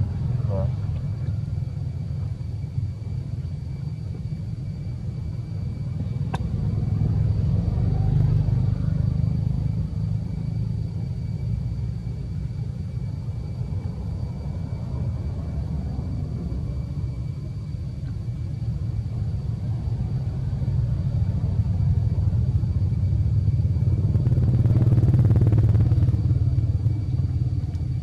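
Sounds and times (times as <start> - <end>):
faint high whine: 0.0 - 28.0
steady low rumble: 0.0 - 28.0.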